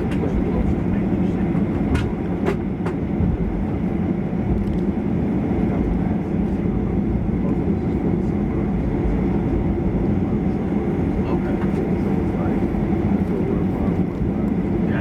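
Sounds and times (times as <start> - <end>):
airplane engines idling: 0.0 - 15.0.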